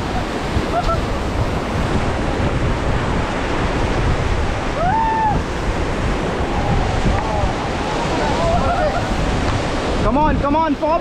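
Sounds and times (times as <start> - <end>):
whitewater rushing: 0.0 - 11.0
wind buffeting microphone: 0.0 - 11.0.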